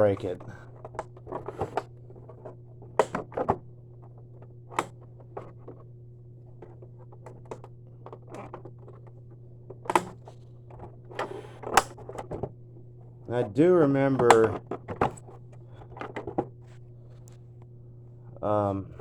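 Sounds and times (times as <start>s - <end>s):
plastic clicks knocks and scrapes: 0.0s - 13.5s, 14.1s - 17.4s
steady low hum: 0.0s - 19.0s.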